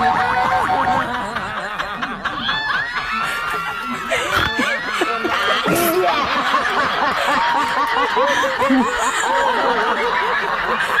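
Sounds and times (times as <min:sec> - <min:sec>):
people laughing: 0:00.0 - 0:11.0.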